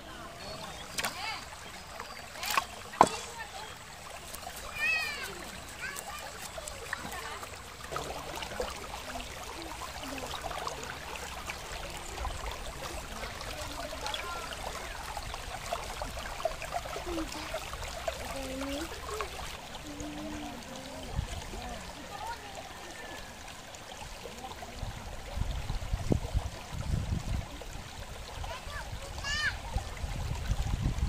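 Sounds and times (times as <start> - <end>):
small water splashes: 0.0 - 31.0
water trickling over rocks: 0.0 - 31.0.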